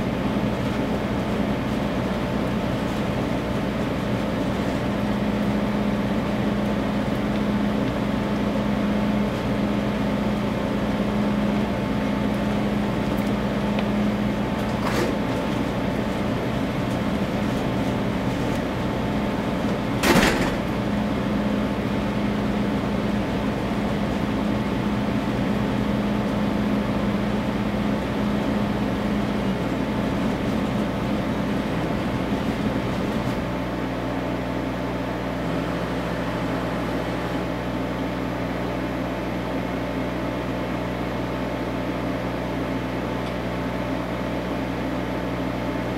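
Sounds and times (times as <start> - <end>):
machine hum: 0.0 - 45.9.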